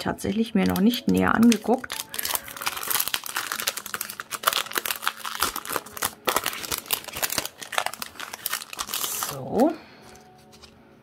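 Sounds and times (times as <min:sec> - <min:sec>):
plastic packaging crinkling: 0:00.3 - 0:10.8.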